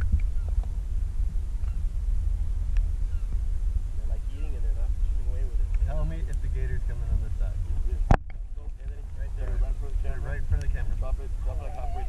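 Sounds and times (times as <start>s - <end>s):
airboat engine idling: 0.0s - 12.0s.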